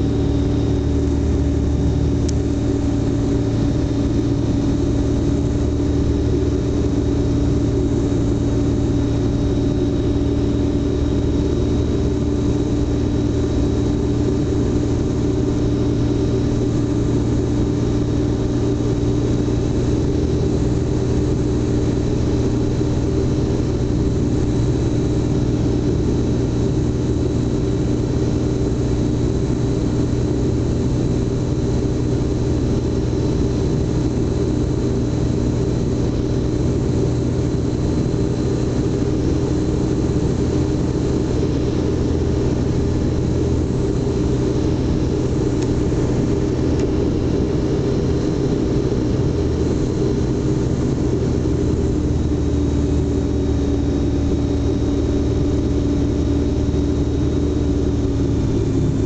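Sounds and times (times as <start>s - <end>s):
light aircraft engine drone: 0.0s - 59.0s
thin steady whine: 0.0s - 59.0s.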